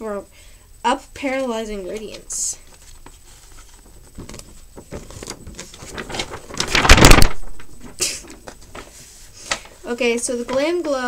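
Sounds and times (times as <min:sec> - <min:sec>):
paper packaging rustling: 0:01.3 - 0:11.0.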